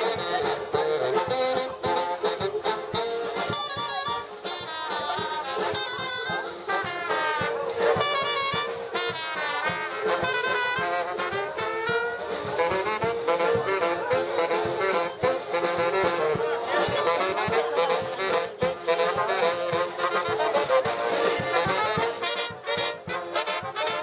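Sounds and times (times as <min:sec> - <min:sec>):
brass band playing lively tune: 0:00.0 - 0:24.0.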